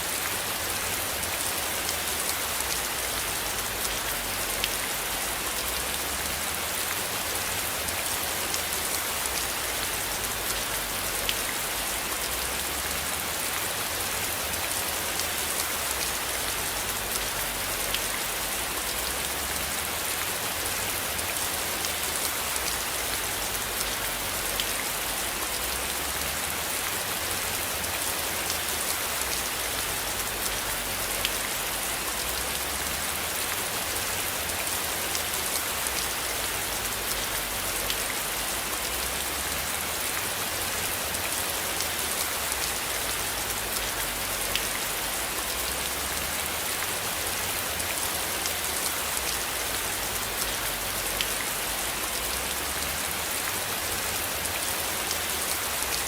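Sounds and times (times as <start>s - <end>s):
raindrops ticking on a surface: 0.0s - 56.0s
steady rain falling: 0.0s - 56.0s.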